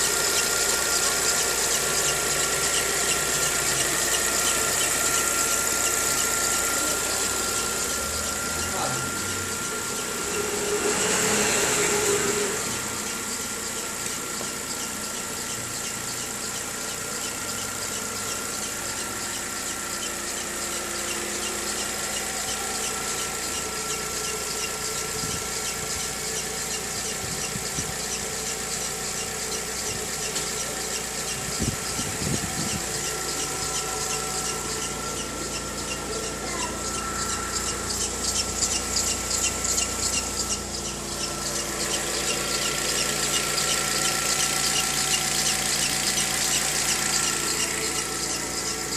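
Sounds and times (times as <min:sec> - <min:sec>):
belt squealing and chirping: 0:00.0 - 0:48.9
engine idling: 0:00.0 - 0:48.9.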